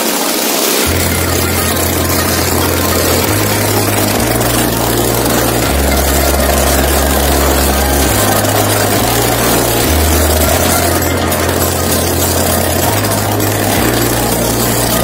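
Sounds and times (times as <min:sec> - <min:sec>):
motorcycle engine running: 0:00.8 - 0:15.0
deep hum shifting pitch: 0:00.9 - 0:15.0.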